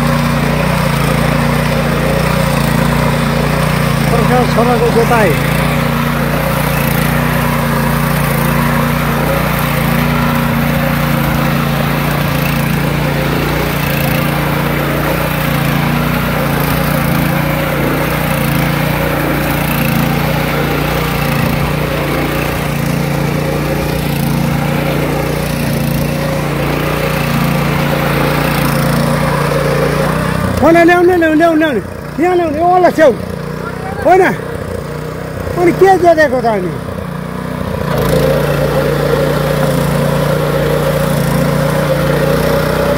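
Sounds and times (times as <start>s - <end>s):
tiller engine running: 0.0s - 42.9s.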